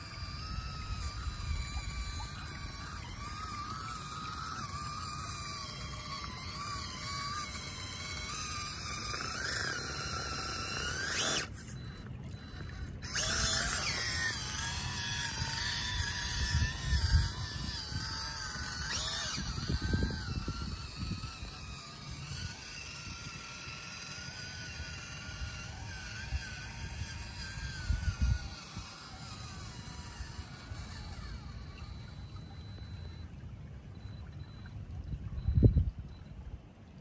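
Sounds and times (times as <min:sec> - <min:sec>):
small electric motor whining: 0:00.0 - 0:35.8.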